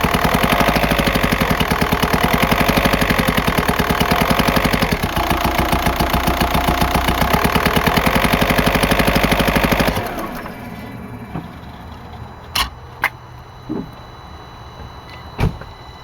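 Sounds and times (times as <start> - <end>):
diesel engine idling with rapping: 0.0 - 16.0.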